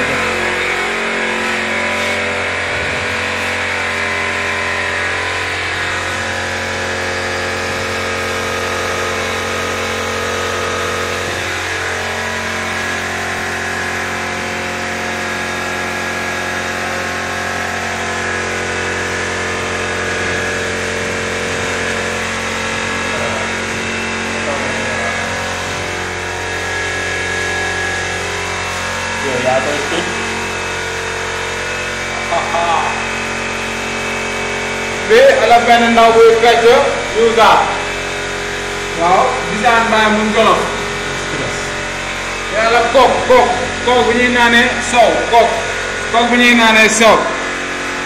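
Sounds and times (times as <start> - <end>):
motor droning: 0.0 - 48.0.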